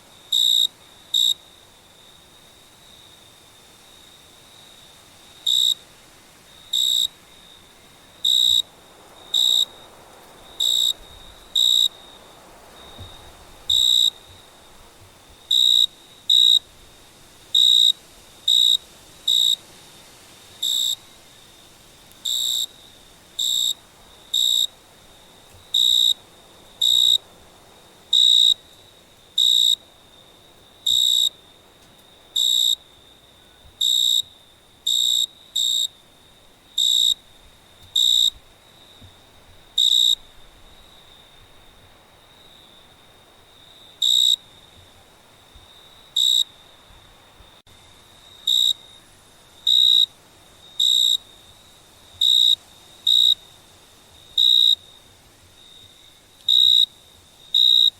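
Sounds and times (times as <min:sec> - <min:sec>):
cricket chirping: 0:00.0 - 0:57.9
faint background hiss: 0:00.0 - 0:57.9.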